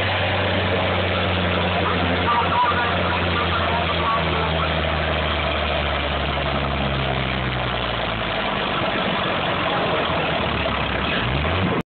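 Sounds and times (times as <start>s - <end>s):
diesel tractor engine droning: 0.0s - 11.8s.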